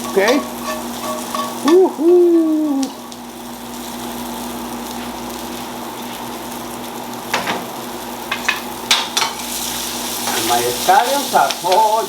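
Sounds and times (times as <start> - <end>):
onions sizzling in a frying pan: 0.0 - 12.0.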